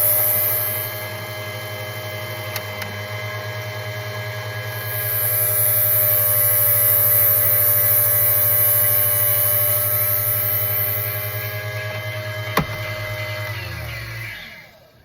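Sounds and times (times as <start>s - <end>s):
motor hum and whine: 0.0s - 15.0s.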